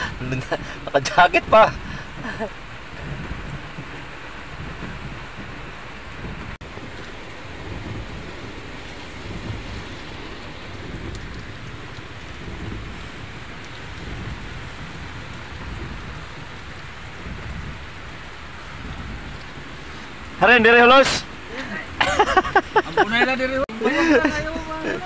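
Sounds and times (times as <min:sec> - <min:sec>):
heavy rain on vehicle roof: 0:00.0 - 0:25.0.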